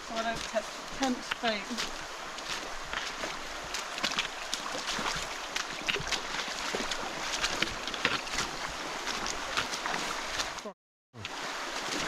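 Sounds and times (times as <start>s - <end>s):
feet splashing through river: 0.0s - 12.0s
flowing water rushing: 0.0s - 12.0s.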